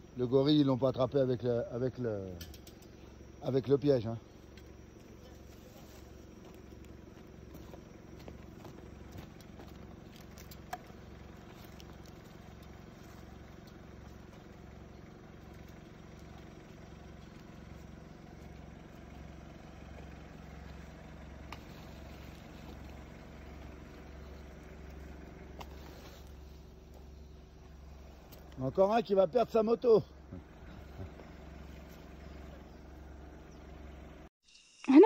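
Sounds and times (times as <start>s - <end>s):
vehicle engine idling: 0.0s - 34.3s.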